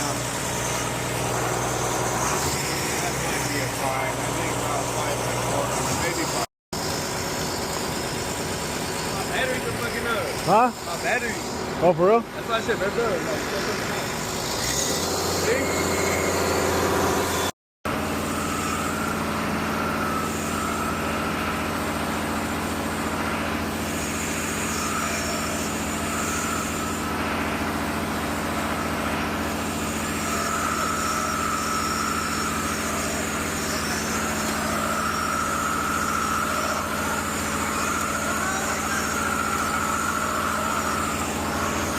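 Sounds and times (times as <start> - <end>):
diesel truck engine running: 0.0 - 41.9
high whine: 0.0 - 41.9.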